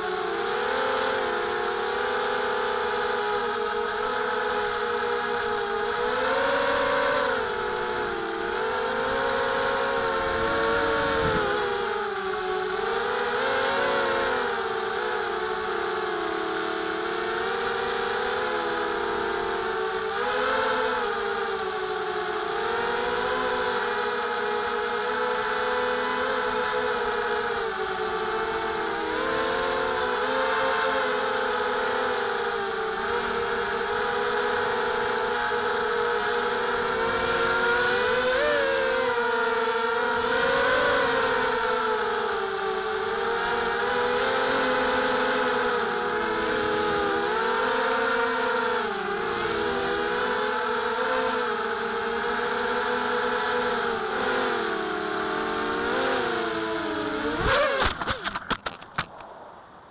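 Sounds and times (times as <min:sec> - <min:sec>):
quadcopter motors whining: 0:00.0 - 0:59.2.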